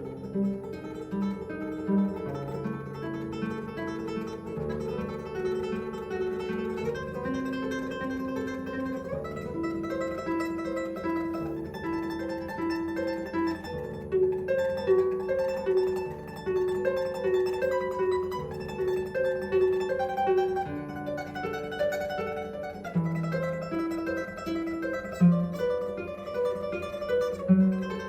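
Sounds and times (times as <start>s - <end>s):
classical guitar solo: 0.0s - 28.0s.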